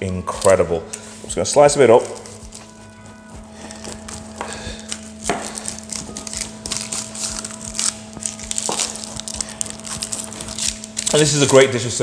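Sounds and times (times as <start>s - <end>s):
faint steady hum: 0.0s - 12.0s
pastry crust crunching: 1.6s - 11.9s.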